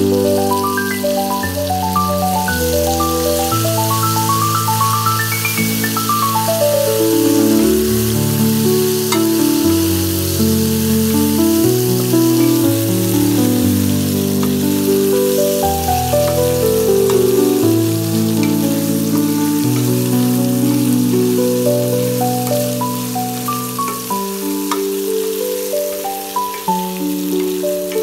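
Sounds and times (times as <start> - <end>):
slow instrumental music: 0.0 - 28.0
vegetables sizzling in oil: 0.0 - 28.0.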